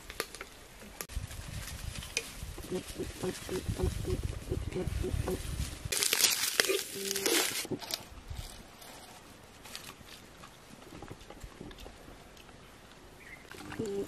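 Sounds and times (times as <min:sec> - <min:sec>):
crackly rustling: 0:00.0 - 0:14.0.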